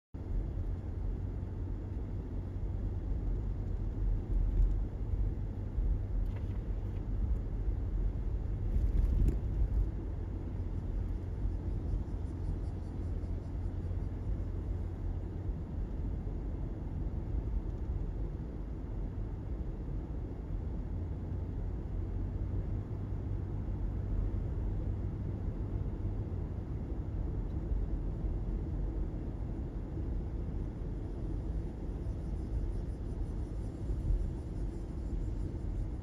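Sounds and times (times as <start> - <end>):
car interior road rumble: 0.2 - 36.0.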